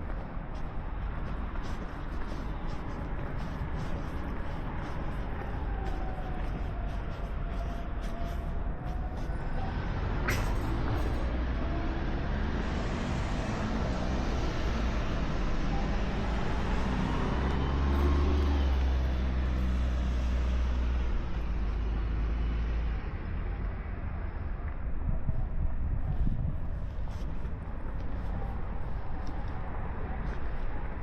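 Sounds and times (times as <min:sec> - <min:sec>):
road traffic: 0:00.0 - 0:25.1, 0:25.8 - 0:31.0
heavy vehicle engine rumble: 0:00.0 - 0:31.0.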